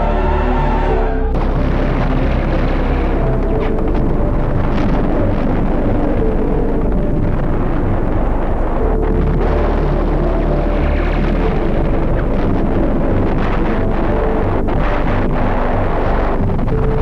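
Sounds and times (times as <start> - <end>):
deep rumble of artillery fire: 1.3 - 17.0.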